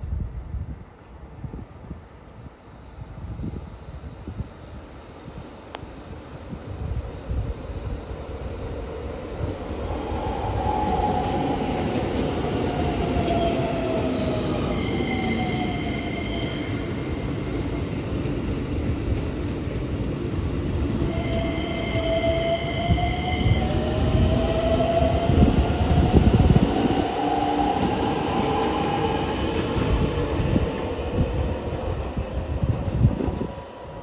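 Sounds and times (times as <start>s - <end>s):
train wheels rumbling on rails: 6.2s - 34.0s.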